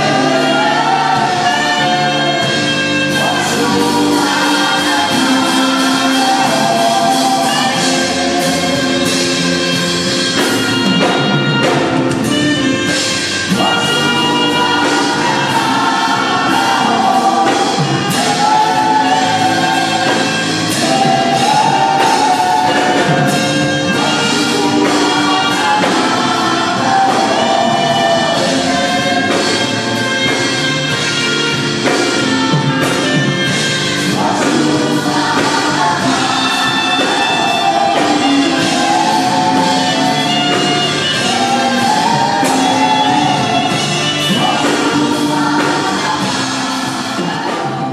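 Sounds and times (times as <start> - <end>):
band accompaniment with beat: 0.0 - 47.9
choir singing gospel music: 0.0 - 47.9.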